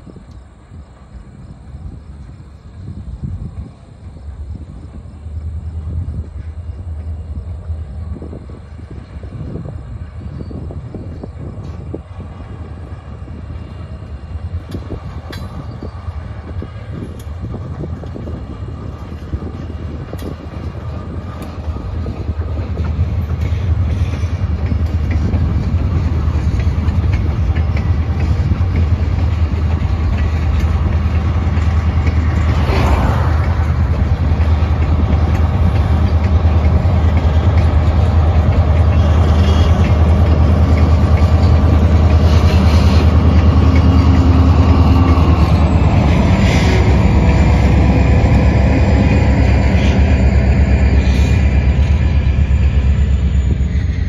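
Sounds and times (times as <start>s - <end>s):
diesel locomotive engine rumble: 0.0s - 54.0s
freight train rolling by: 0.0s - 54.0s.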